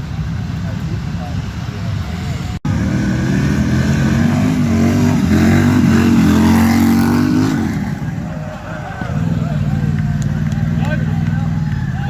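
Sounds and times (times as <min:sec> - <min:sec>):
motorcycle engine revving: 0:00.9 - 0:12.0.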